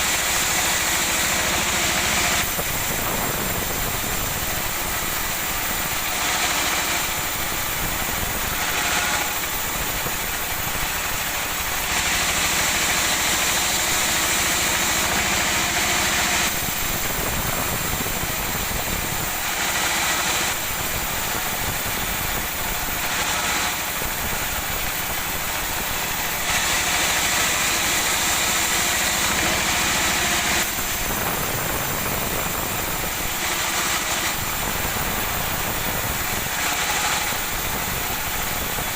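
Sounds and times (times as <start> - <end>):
woodworking machine cutting wood: 0.0 - 38.9.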